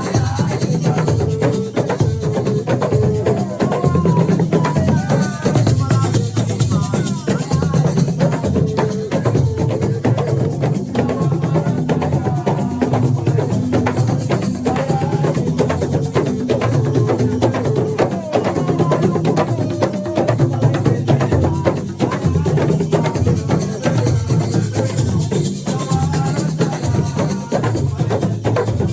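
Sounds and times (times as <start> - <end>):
drums and percussion beat: 0.0 - 28.9.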